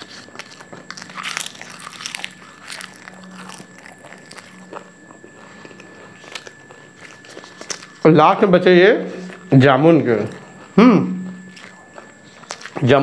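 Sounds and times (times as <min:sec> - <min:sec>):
man chewing crunchy leaves: 0:00.0 - 0:08.2, 0:09.1 - 0:13.0.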